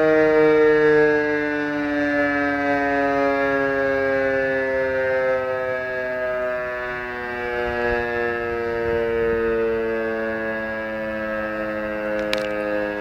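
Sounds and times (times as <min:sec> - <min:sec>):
alarm siren wailing: 0:00.0 - 0:13.0.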